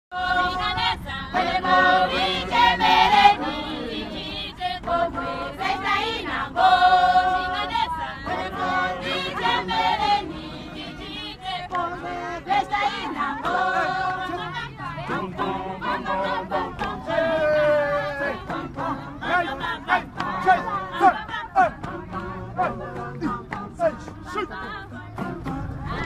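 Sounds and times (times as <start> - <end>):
women singing in chorus: 0.1 - 26.0.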